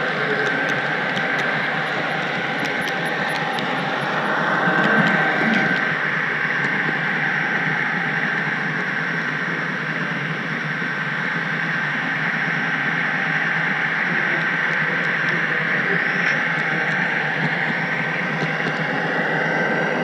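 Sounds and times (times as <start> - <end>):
thin steady whine: 0.0 - 20.0.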